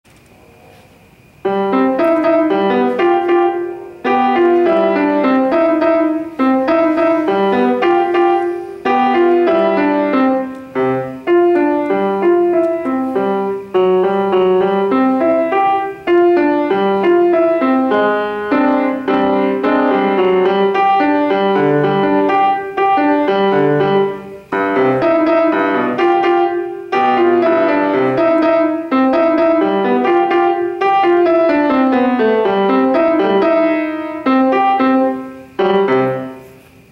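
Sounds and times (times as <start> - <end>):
grand piano piece: 0.1 - 36.9.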